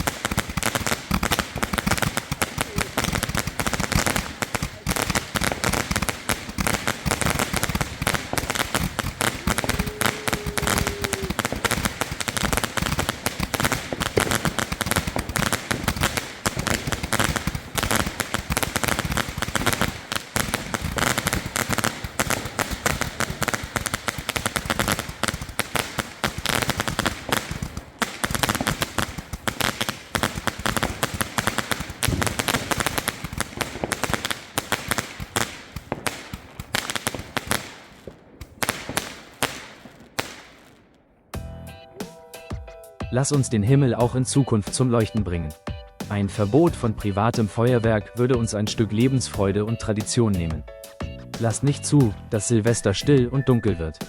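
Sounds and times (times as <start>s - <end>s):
fireworks bangs and crackles: 0.0s - 41.4s, 46.0s - 53.2s.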